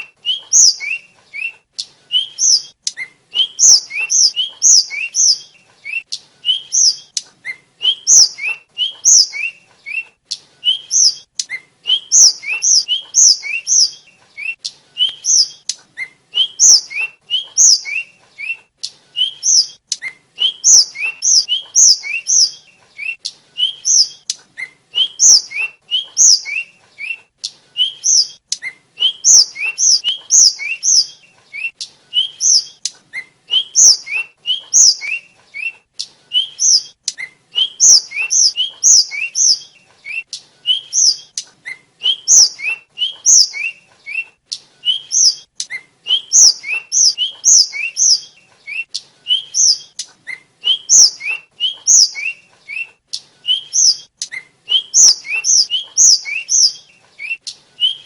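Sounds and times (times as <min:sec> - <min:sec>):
flycatcher singing whistled notes: 0:00.0 - 0:27.2, 0:27.8 - 0:52.9, 0:53.5 - 0:58.0.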